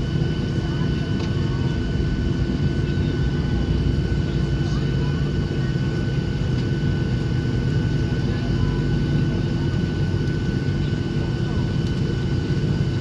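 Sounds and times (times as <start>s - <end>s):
aircraft cabin rumble and whine: 0.0s - 13.0s
faint passenger voices: 0.0s - 13.0s.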